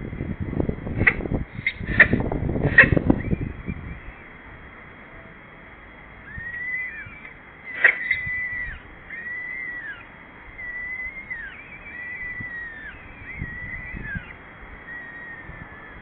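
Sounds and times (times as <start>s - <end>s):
falcons calling: 1.0s - 4.4s, 6.0s - 16.0s.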